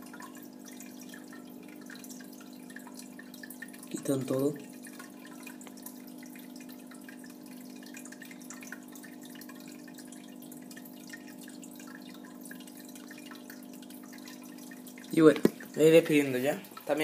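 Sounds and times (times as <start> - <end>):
pump humming: 0.0 - 17.0
water trickling and dripping: 0.0 - 17.0.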